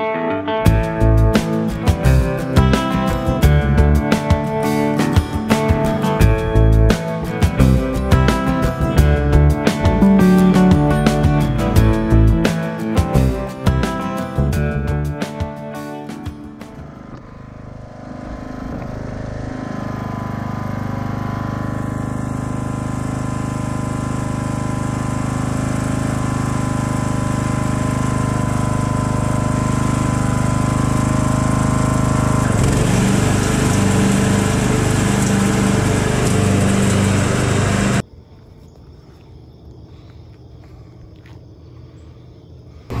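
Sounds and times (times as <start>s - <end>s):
riding lawn mower engine running: 0.6s - 38.0s.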